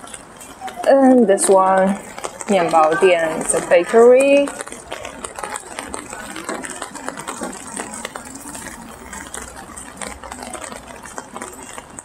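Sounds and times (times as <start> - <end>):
rain pattering on umbrella: 0.0 - 12.0.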